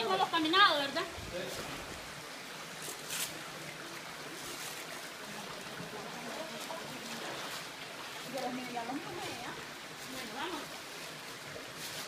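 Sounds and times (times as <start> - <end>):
shallow creek rushing and trickling: 0.0 - 12.0.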